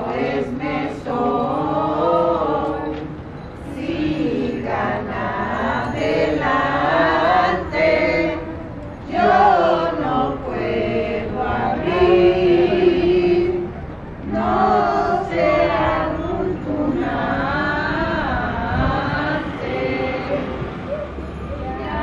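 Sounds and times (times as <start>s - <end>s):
group singing a hymn: 0.0s - 22.0s.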